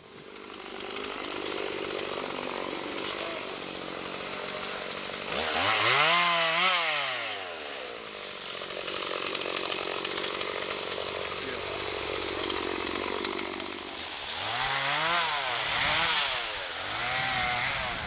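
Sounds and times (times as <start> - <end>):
chainsaw engine revving: 0.0 - 18.0.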